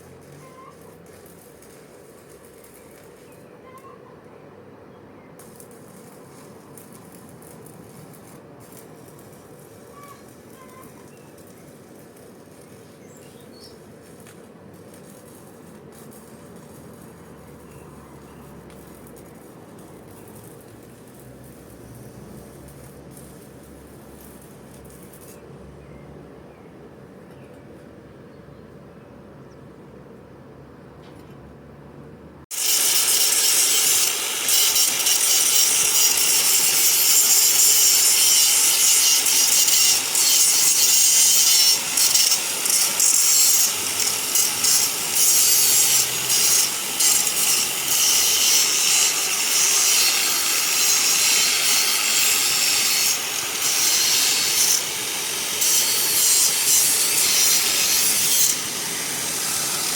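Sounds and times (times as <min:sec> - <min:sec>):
welding arc crackling and hissing: 0:00.0 - 0:03.4, 0:05.4 - 0:25.4, 0:32.5 - 0:59.9.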